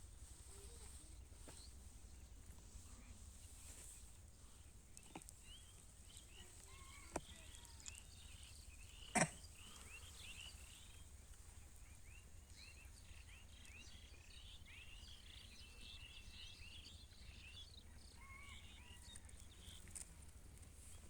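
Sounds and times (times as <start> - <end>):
birds chirping: 0.0 - 20.3.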